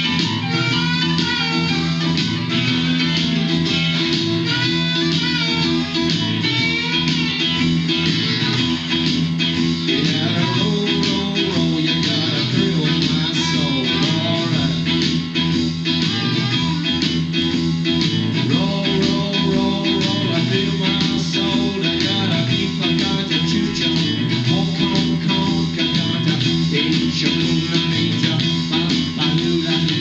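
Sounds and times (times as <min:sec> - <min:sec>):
bass: 0:00.0 - 0:30.0
guitar-led music: 0:00.0 - 0:30.0.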